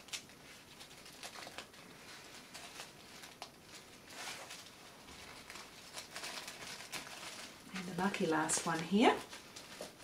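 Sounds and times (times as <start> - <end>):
tissue paper rustling and tearing: 0.0 - 10.0.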